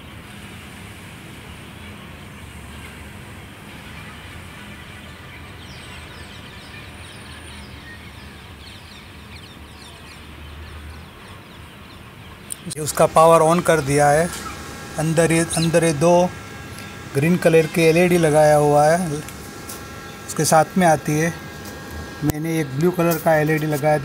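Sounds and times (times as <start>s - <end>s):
outdoor background noise: 0.0s - 24.0s
birds chirping: 1.6s - 24.0s.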